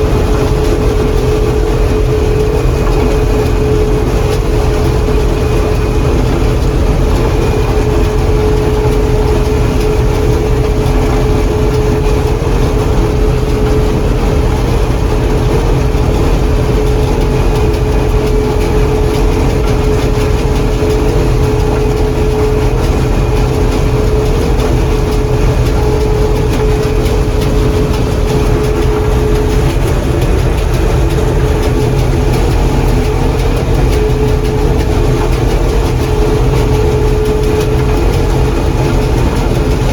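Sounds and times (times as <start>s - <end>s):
combine engine rumble: 0.0s - 39.9s
steady machine whine: 0.0s - 39.9s.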